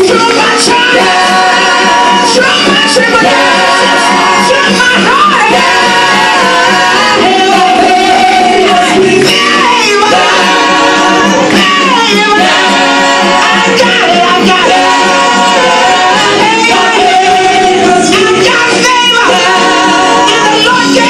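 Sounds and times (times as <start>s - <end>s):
amplified band accompaniment: 0.0s - 21.0s
people singing gospel: 0.0s - 21.0s.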